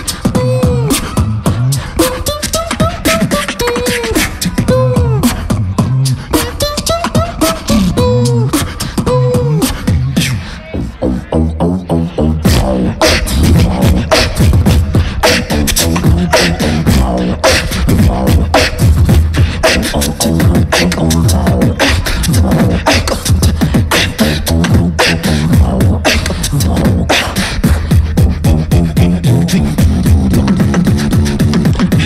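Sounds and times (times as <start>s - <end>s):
beatboxing into microphones: 0.0s - 32.0s
continuous bass line: 0.0s - 32.0s.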